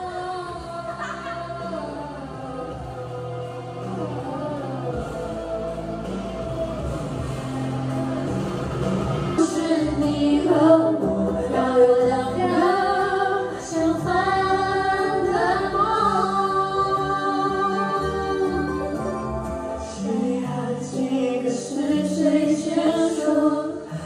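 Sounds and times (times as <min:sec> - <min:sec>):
woman singing karaoke: 0:00.0 - 0:05.4, 0:09.4 - 0:24.0
backing track music: 0:00.0 - 0:24.0.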